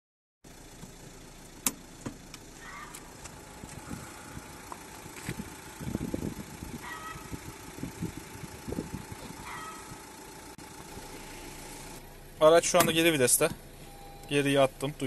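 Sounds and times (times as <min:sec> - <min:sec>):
car engine idling: 0:00.5 - 0:15.0.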